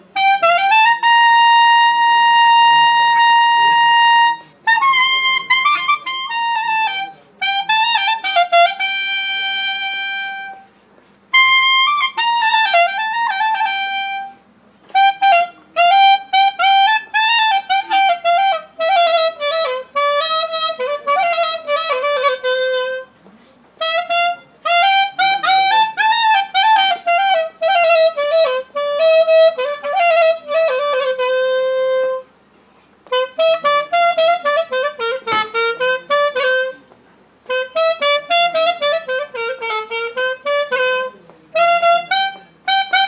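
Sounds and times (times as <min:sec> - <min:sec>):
clarinet solo melody: 0:00.0 - 0:23.2, 0:23.8 - 0:32.3, 0:33.0 - 0:43.0.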